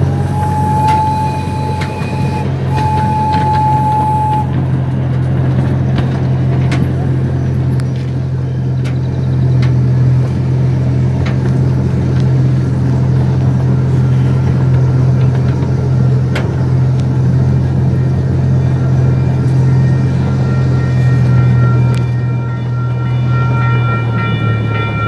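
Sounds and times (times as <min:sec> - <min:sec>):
miniature train rumbling: 0:00.0 - 0:25.0.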